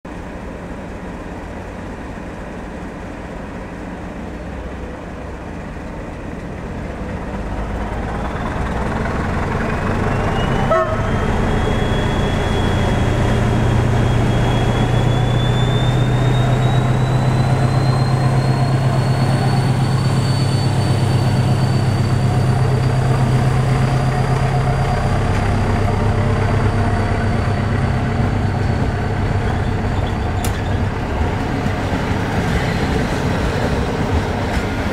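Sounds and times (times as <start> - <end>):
diesel locomotive engine rumble: 0.1 - 34.9.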